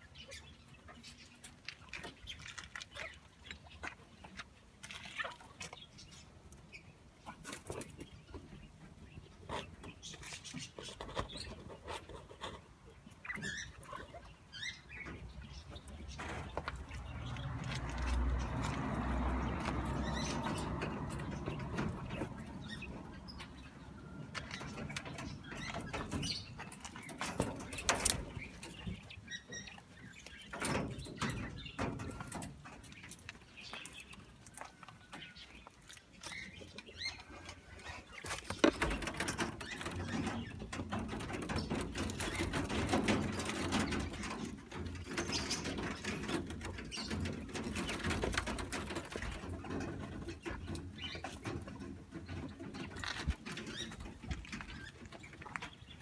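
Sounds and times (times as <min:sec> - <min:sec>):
birds calling and chirping: 0:00.0 - 0:56.0.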